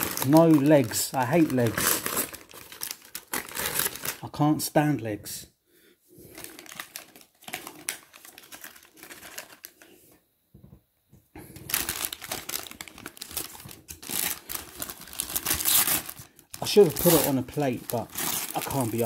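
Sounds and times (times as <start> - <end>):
paper wrapping crinkling: 0.0 - 4.2, 6.3 - 10.0, 11.5 - 19.0.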